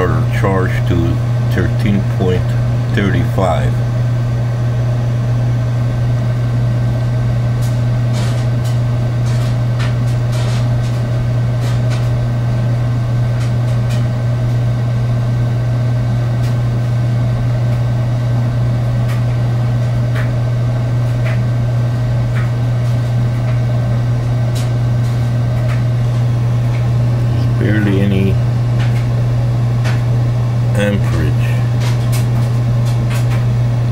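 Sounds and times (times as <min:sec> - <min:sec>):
loud low hum: 0:00.0 - 0:33.9.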